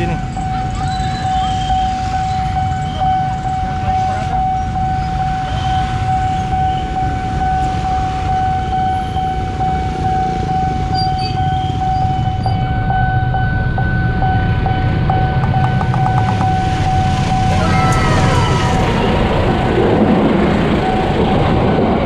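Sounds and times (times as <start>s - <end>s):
electronic warning tone: 0.0s - 19.8s
motorcycle and rickshaw engines: 0.0s - 22.0s.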